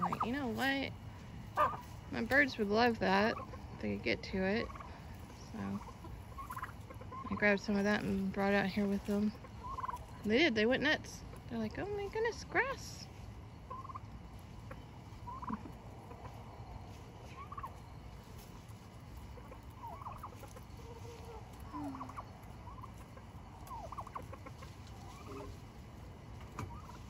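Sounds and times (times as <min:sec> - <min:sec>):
turkeys giving soft calls: 0:00.0 - 0:27.0.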